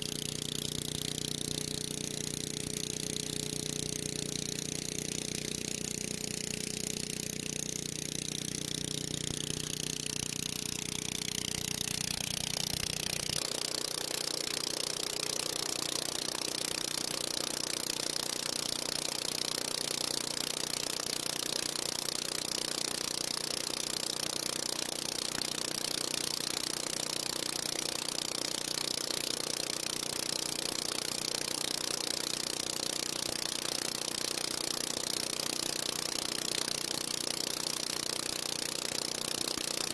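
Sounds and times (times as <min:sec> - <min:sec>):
leaf blower engine running: 0:00.0 - 0:39.9.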